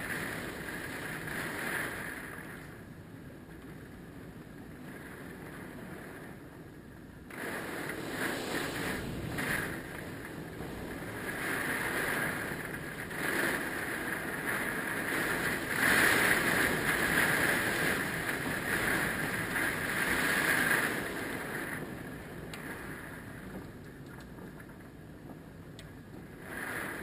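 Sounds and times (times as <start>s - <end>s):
strong wind gusts: 0.0s - 27.0s.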